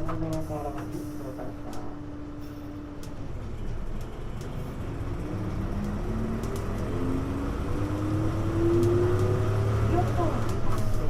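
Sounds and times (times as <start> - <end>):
bus engine accelerating: 0.0 - 11.0.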